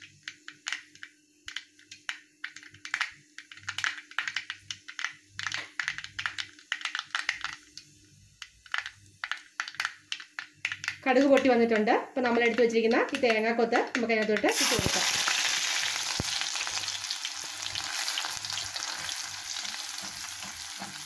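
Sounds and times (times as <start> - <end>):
seeds spluttering in hot oil: 0.0 - 21.0.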